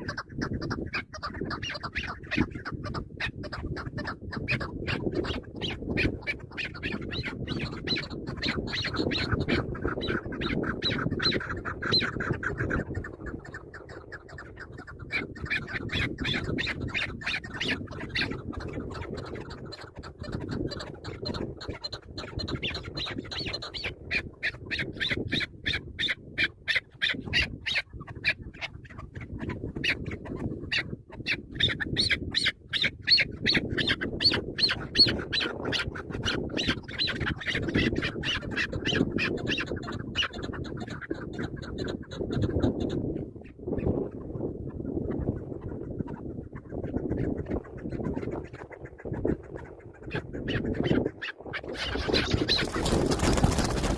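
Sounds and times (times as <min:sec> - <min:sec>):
partridges calling harsh clucking: 0:00.0 - 0:53.9.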